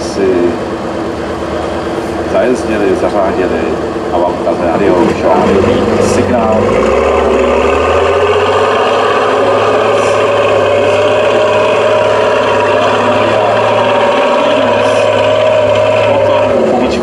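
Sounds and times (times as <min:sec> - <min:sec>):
truck diesel engine revving: 0:00.0 - 0:17.0.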